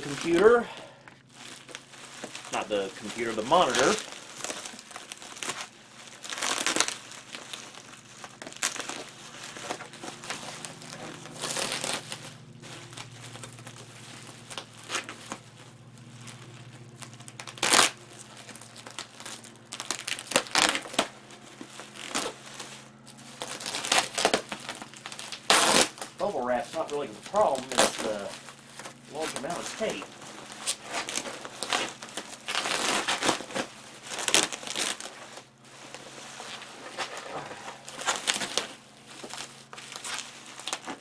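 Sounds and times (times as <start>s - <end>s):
bubble wrap crinkling: 0.0s - 41.0s
sharp crackle: 0.0s - 41.0s.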